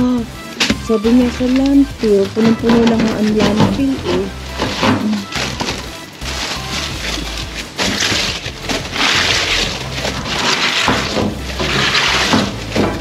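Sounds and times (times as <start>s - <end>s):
vegetables and plastic rustling: 0.0s - 13.0s.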